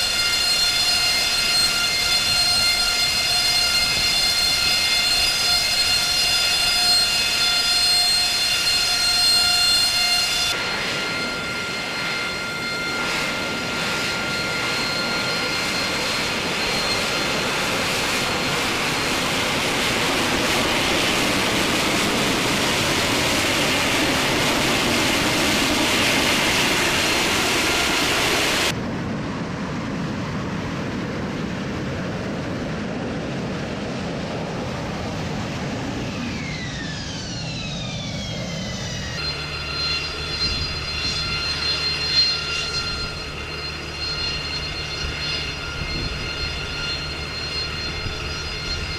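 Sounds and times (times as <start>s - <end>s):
jet engine whine: 0.0s - 48.9s
jet thrust rush: 0.0s - 48.9s.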